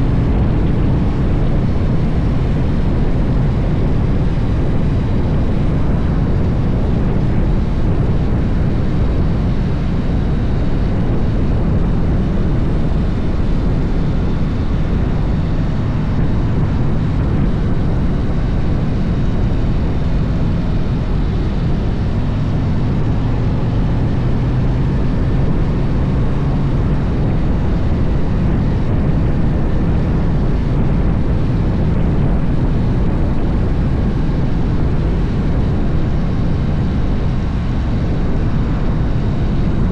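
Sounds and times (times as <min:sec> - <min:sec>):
motorcycle engine and riding noise: 0:00.0 - 0:39.9.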